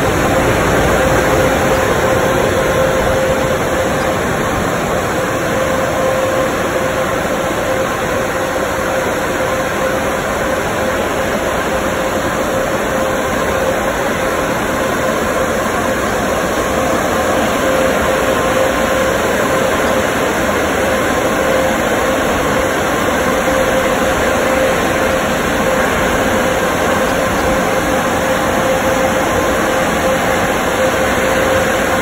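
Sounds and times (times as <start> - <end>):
car wash dryer blowers: 0.0 - 32.0.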